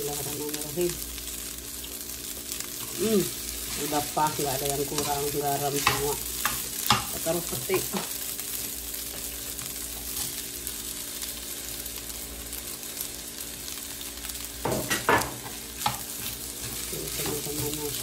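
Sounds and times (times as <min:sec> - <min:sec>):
rice sizzling in a frying pan: 0:00.0 - 0:18.0.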